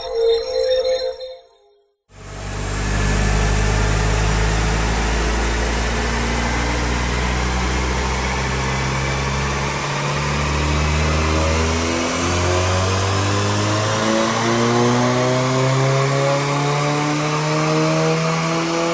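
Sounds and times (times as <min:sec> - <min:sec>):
car engine running under load: 0:02.1 - 0:18.9.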